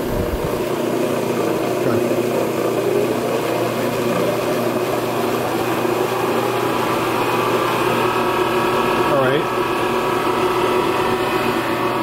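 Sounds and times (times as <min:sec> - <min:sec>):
mixer motor humming: 0:00.0 - 0:12.0.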